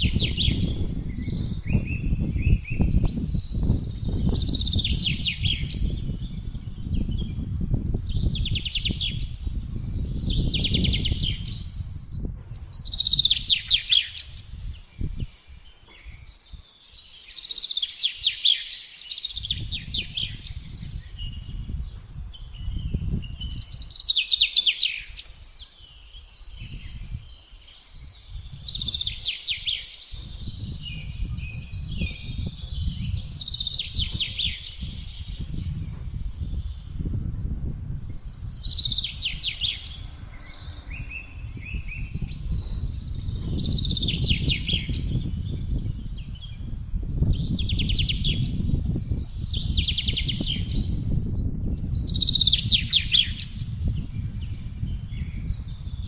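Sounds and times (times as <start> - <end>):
gusting wind: 0.0 - 56.0
songbirds singing: 0.0 - 56.0.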